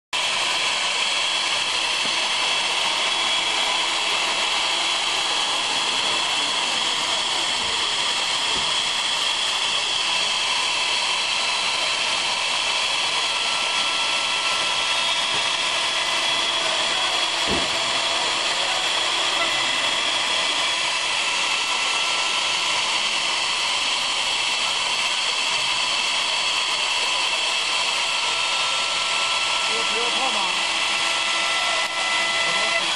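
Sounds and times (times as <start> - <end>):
high whine of spindle motors: 0.2 - 32.9
wood lathe router cutting: 0.2 - 32.9.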